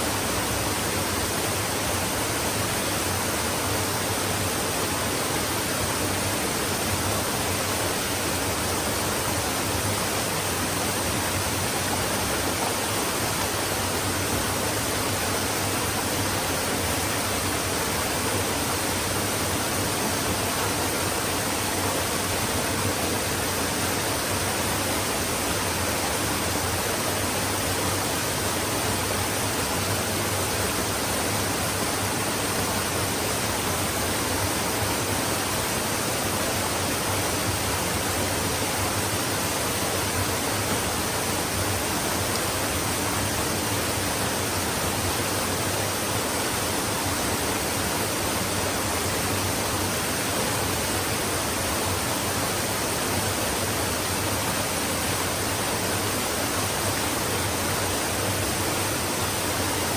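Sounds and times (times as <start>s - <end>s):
stream running water: 0.0s - 59.9s.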